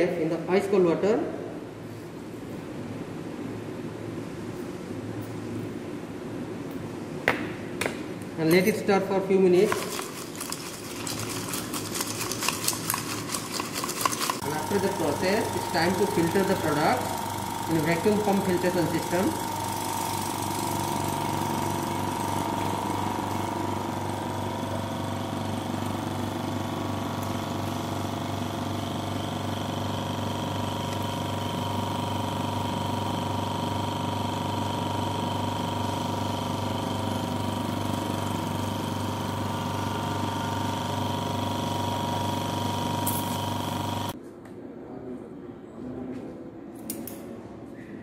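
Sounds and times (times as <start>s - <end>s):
vacuum pump humming and whining: 0.0s - 44.2s.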